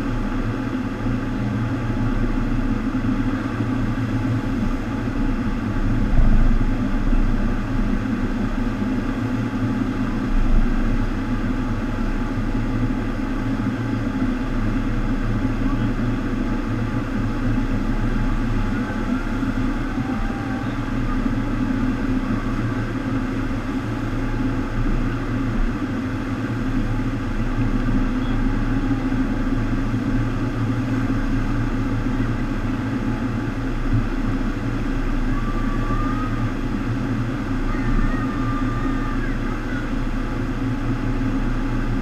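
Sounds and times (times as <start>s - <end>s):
deep pump hum: 0.0s - 42.0s.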